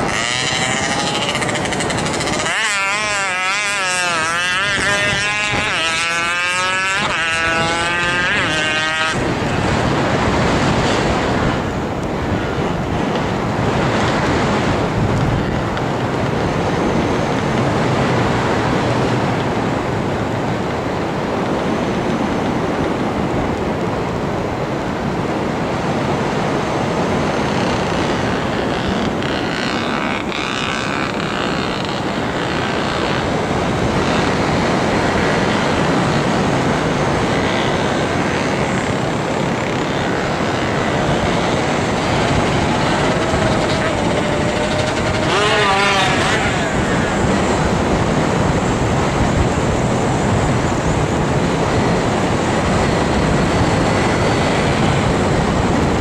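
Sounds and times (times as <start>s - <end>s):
model aircraft rushing in flight: 0.0s - 56.0s.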